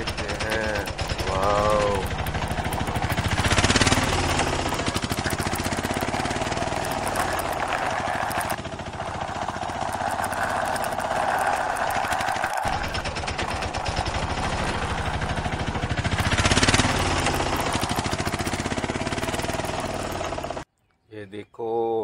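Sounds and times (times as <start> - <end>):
toy rickshaw rattling: 0.0 - 20.6.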